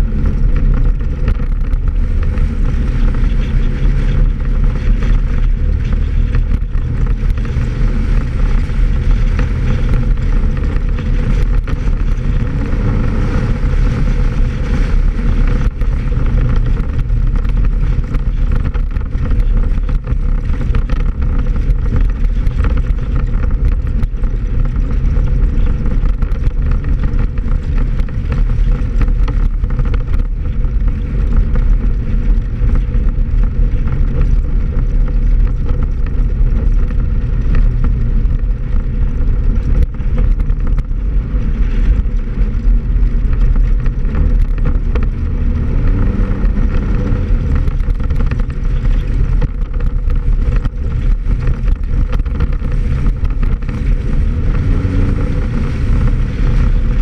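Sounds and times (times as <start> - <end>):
knocks and rattles: 0.0 - 57.0
vehicle engine running: 0.0 - 57.0.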